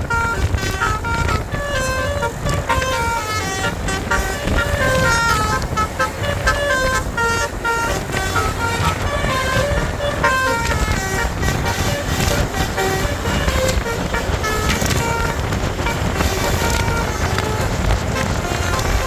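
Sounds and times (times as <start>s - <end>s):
bus engine low rumble: 0.0s - 19.0s
bus horn playing a tune: 0.0s - 19.0s.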